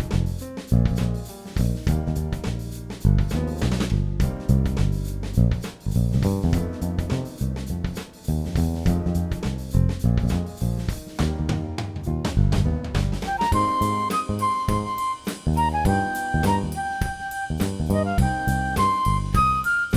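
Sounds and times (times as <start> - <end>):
instrumental music with drum beat: 0.0 - 19.9.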